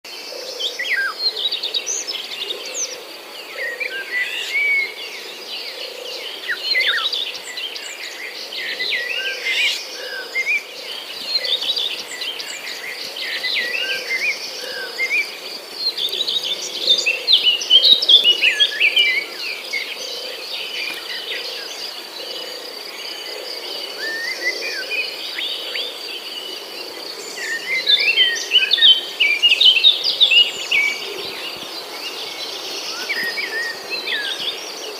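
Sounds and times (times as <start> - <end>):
birds chirping: 0.3 - 34.9.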